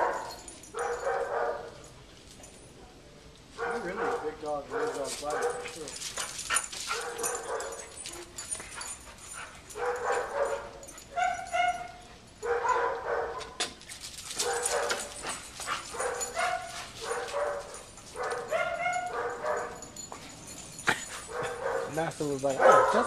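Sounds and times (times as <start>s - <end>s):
dogs barking and yelping: 0.0s - 2.6s, 3.6s - 23.0s.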